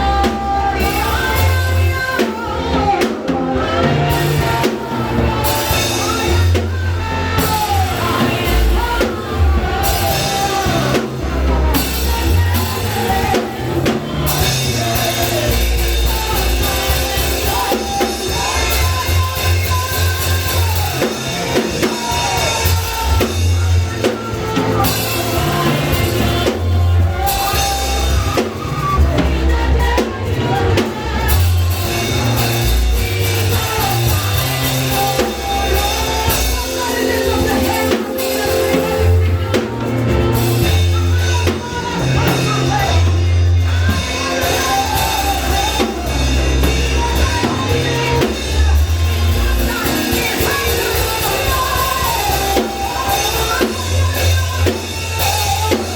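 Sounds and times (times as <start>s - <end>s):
bass line: 0.0s - 55.9s
drum kit: 0.0s - 55.9s
person singing: 0.0s - 55.9s.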